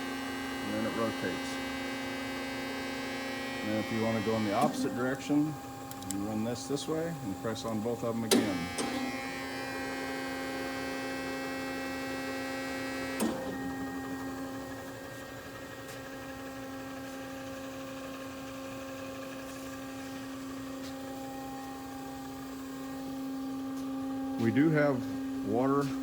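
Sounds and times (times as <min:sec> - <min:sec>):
hydraulic pump motor humming: 0:00.0 - 0:26.0.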